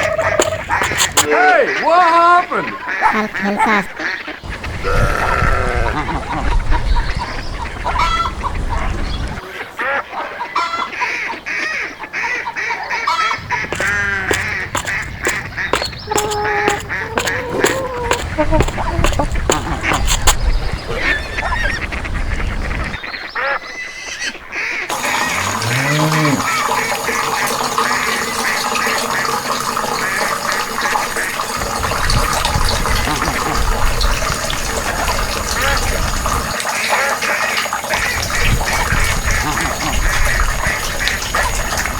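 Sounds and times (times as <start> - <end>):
rushing water: 0.0 - 9.8, 13.3 - 23.0, 24.9 - 41.9
ducks quacking: 0.0 - 41.9
geese honking: 0.0 - 41.9.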